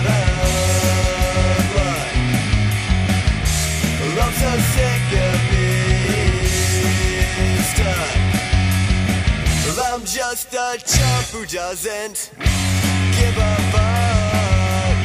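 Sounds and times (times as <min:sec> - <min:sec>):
drums with cymbal crashes: 0:00.0 - 0:10.3, 0:10.9 - 0:11.8, 0:12.4 - 0:15.0
bass line: 0:00.0 - 0:15.0
distorted electric guitars: 0:00.0 - 0:15.0.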